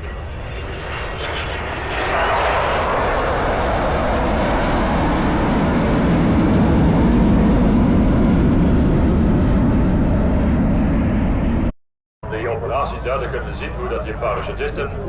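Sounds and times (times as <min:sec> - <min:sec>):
jet aircraft flying by: 0:00.0 - 0:15.0.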